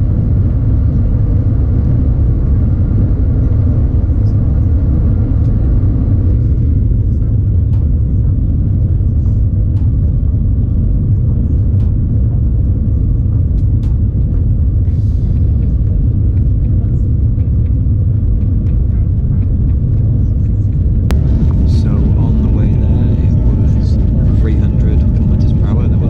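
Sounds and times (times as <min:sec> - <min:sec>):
train interior low rumble: 0:00.0 - 0:26.0.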